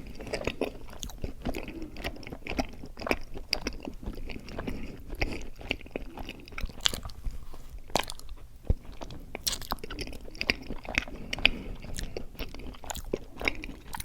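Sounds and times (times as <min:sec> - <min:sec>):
chewing mouth sounds: 0:00.0 - 0:14.0
wet smacks and clicks: 0:00.2 - 0:14.0.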